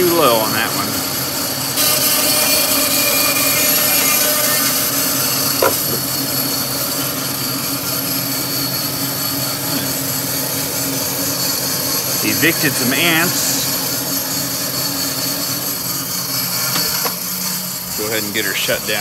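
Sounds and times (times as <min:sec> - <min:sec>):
bandsaw cutting wood: 0:00.0 - 0:08.3, 0:08.9 - 0:19.0
shop vacuum hissing: 0:00.0 - 0:19.0.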